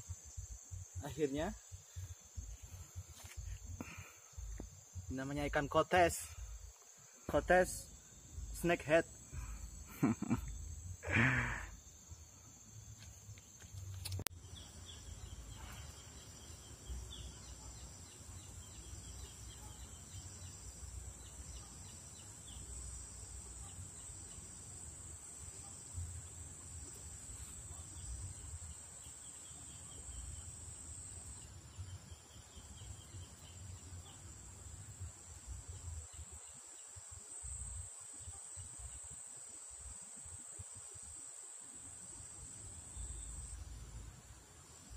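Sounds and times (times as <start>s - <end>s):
high-pitched insect trill: 0.0s - 44.9s.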